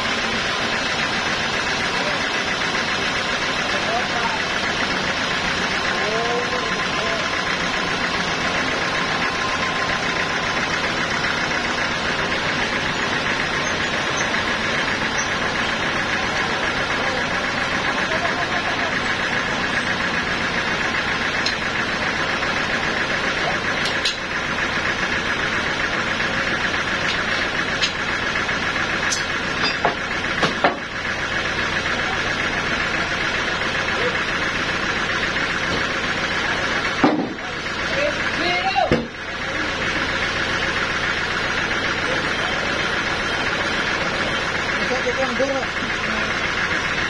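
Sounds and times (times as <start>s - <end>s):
band sawmill sawing log: 0.0s - 47.0s.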